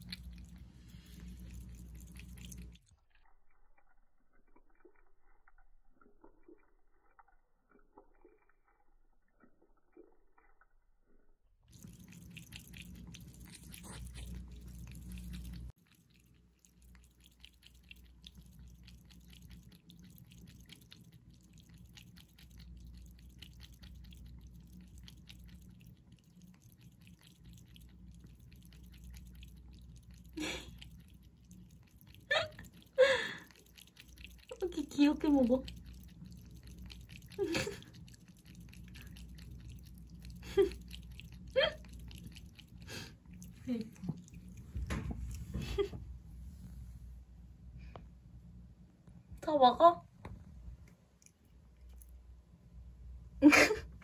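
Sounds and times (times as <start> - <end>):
low steady hum: 0.0 - 10.1, 10.7 - 54.0
cat lapping water: 0.0 - 47.0, 50.3 - 52.8.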